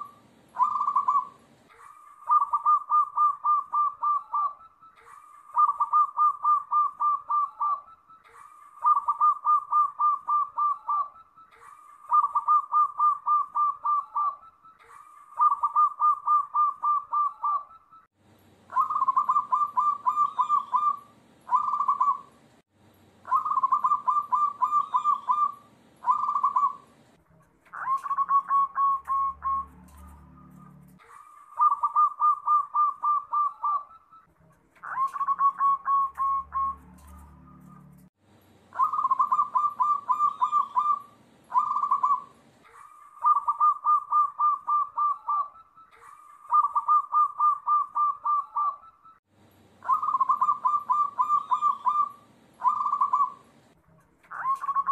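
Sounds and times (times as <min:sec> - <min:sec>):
doves cooing: 0:00.0 - 0:17.9, 0:18.7 - 0:22.4, 0:23.2 - 0:27.0, 0:27.7 - 0:38.1, 0:38.7 - 0:49.0, 0:49.8 - 0:53.6, 0:54.3 - 0:54.9.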